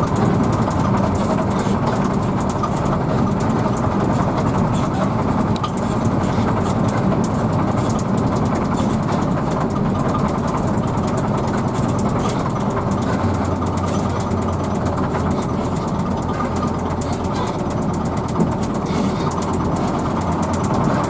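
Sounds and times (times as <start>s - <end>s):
bus diesel engine droning: 0.0s - 21.0s
light rapid ticking: 0.0s - 21.0s.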